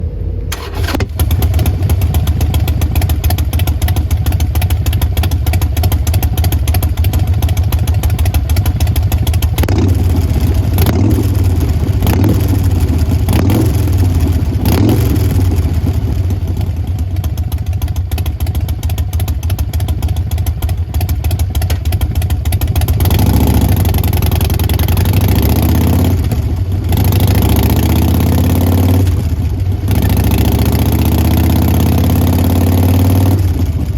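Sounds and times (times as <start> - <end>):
motorcycle throttle blips: 0.4 - 28.3
motorcycle engine high revs: 0.5 - 16.9, 21.6 - 33.9
motorcycle engine idling: 0.5 - 33.9.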